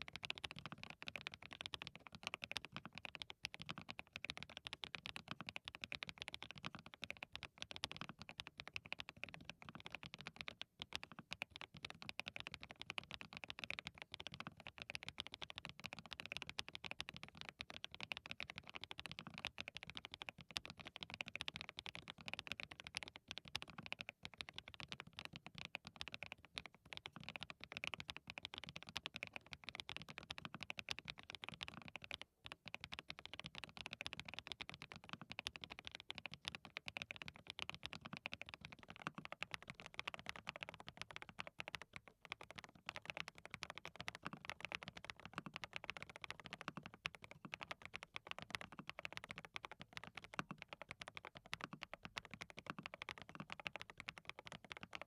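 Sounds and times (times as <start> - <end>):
fast mechanical keyboard typing: 0.0 - 55.0.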